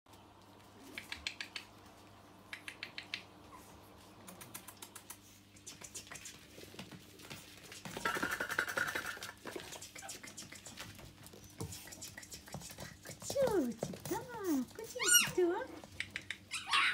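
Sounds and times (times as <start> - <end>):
puppy claws clicking and scratching: 0.8 - 1.9, 2.5 - 3.3, 4.2 - 16.5.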